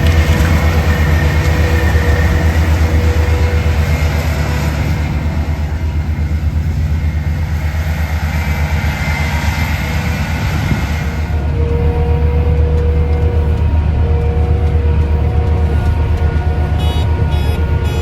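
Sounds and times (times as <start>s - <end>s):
harvester diesel engine humming: 0.0s - 18.0s.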